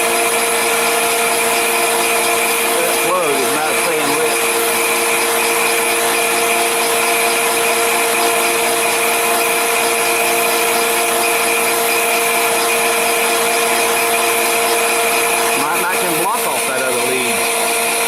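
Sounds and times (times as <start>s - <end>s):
heater fan humming and whining: 0.0s - 18.0s.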